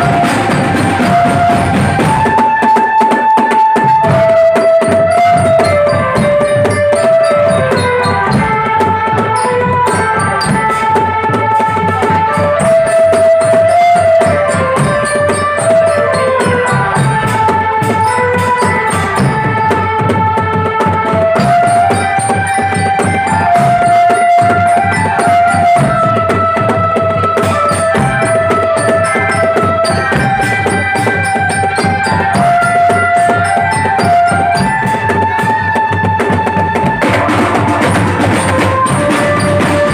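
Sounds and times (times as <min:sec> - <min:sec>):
bass and tenor drumming: 0:00.0 - 0:39.9
pitched drum melody: 0:00.0 - 0:39.9.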